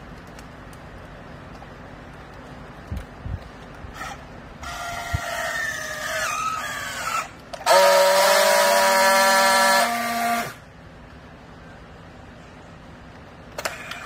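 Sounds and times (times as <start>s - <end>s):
high steady buzz of welding: 0.0s - 14.0s.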